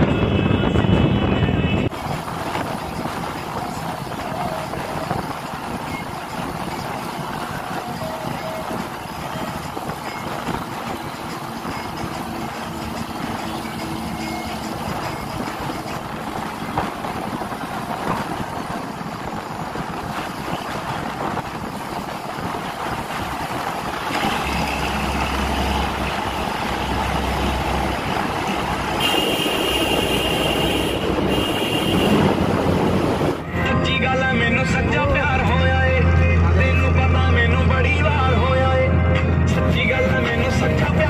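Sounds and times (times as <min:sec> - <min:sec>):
bus engine drone: 0:00.0 - 0:41.0
road and wind noise: 0:00.0 - 0:41.0.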